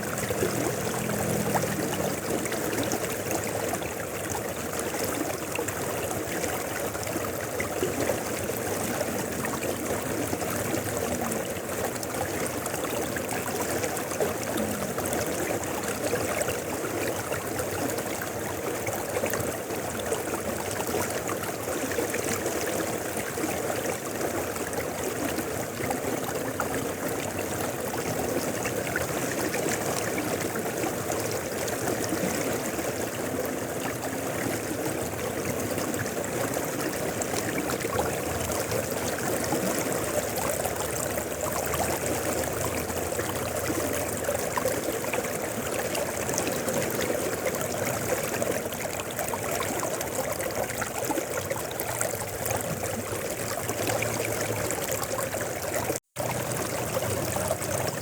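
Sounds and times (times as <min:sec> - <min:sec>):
rushing river water: 0:00.0 - 0:58.0
water trickling and gurgling: 0:00.0 - 0:58.0.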